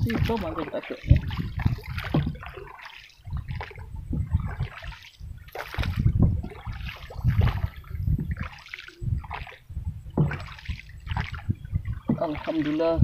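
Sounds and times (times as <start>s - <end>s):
water splashing around a boat: 0.0s - 13.0s.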